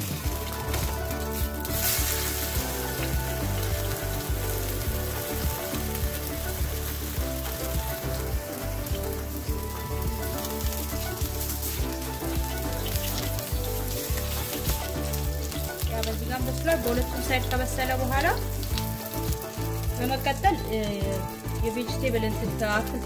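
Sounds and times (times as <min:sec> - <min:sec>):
cutlet sizzling in oil: 0:00.0 - 0:23.0.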